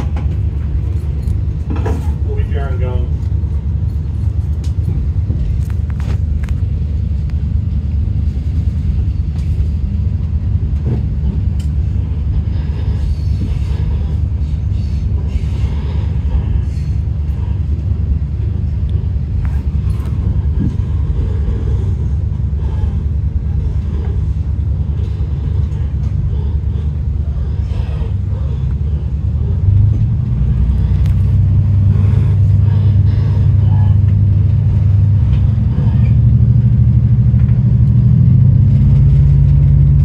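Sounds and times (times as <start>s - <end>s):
railcar engine rumble: 0.0s - 40.0s.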